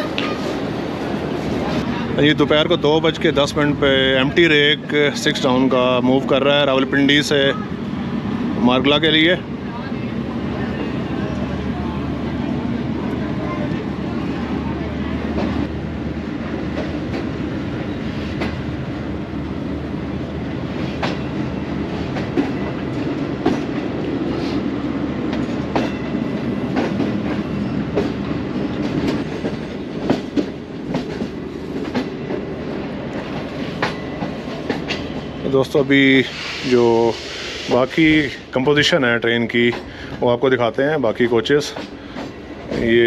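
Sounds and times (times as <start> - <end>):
train coaches rumbling: 0.0 - 43.0.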